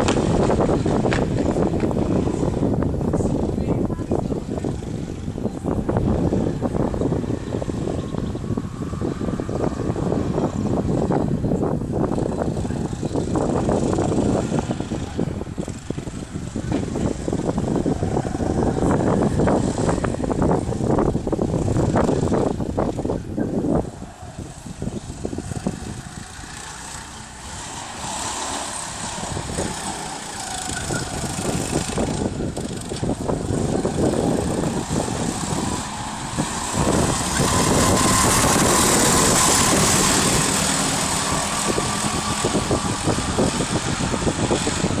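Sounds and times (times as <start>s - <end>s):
go-kart engines racing: 0.0s - 45.0s.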